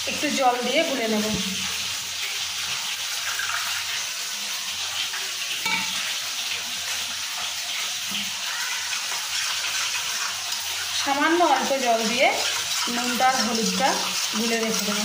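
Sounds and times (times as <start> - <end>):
fish sizzling in oil: 0.0 - 15.0
water poured into steel bowl: 0.5 - 15.0.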